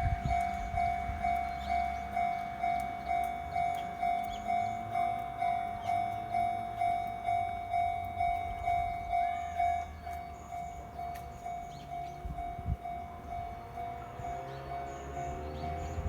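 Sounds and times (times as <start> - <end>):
level crossing warning bell: 0.0 - 16.0
train rumbling: 0.0 - 16.0.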